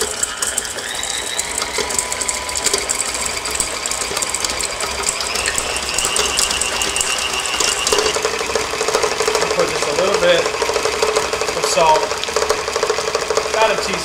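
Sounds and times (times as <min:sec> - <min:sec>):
mixer paddle clattering: 0:00.0 - 0:14.0
stand mixer motor whine: 0:00.0 - 0:14.0.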